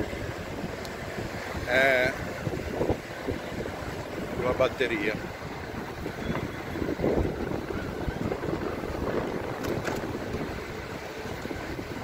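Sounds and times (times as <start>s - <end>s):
bike road rumble: 0.0s - 12.0s
wind buffeting microphone: 0.0s - 12.0s.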